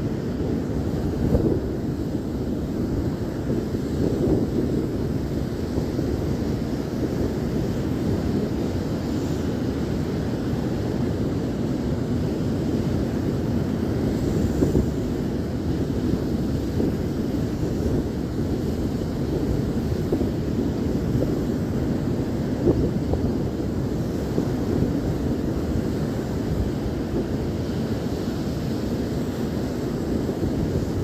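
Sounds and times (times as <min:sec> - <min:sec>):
ocean surf: 0:00.0 - 0:31.0
wind buffeting microphone: 0:00.0 - 0:31.0.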